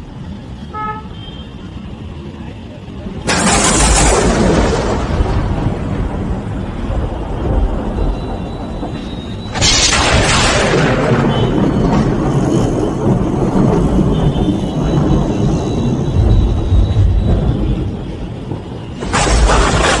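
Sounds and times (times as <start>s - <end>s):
heavy rain pouring: 2.0s - 20.0s
deep steady rumble: 3.2s - 20.0s.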